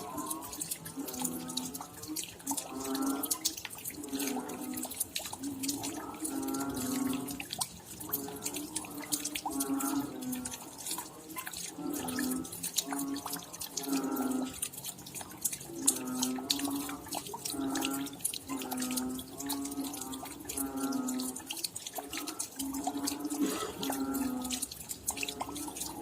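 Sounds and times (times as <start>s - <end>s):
raindrops dripping and splashing: 0.0s - 26.0s.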